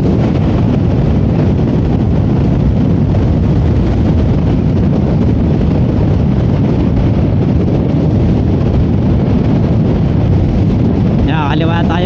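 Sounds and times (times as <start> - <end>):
road noise: 0.0 - 12.0
wind rush on microphone: 0.0 - 12.0.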